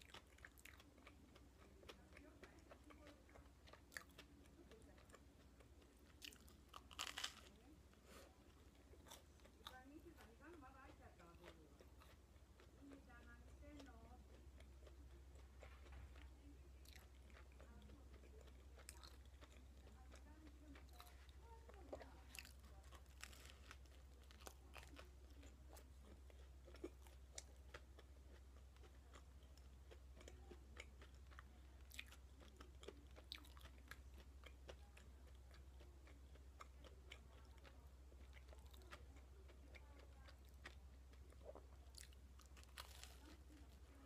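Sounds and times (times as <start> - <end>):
chewing toast: 0.0 - 44.0.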